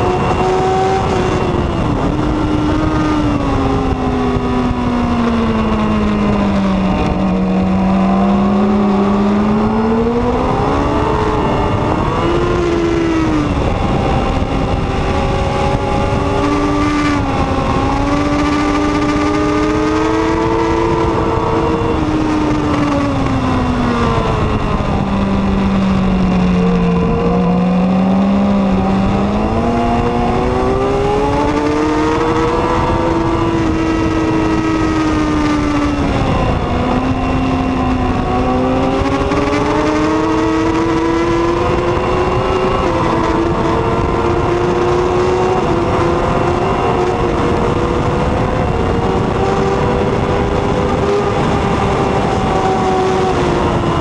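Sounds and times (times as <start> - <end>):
motorcycle engine at high revs: 0.0 - 54.0
wind rush: 0.0 - 54.0.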